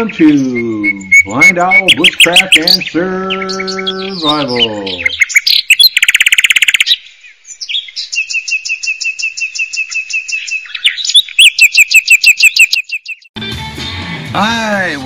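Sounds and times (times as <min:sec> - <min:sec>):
bird trill: 0:00.0 - 0:13.3
high bird chirps: 0:00.0 - 0:13.3.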